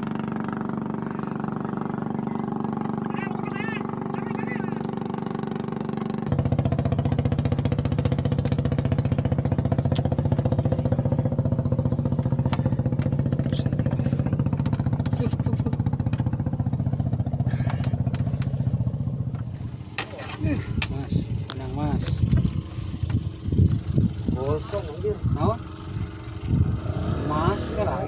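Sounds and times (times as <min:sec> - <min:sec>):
small engine chugging: 0:00.0 - 0:28.0.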